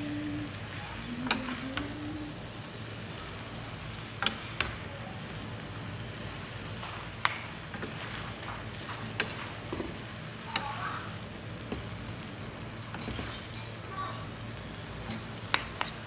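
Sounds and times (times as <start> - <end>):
spatulas stirring food in a wok: 0.0 - 16.0
steady low hum: 0.0 - 16.0.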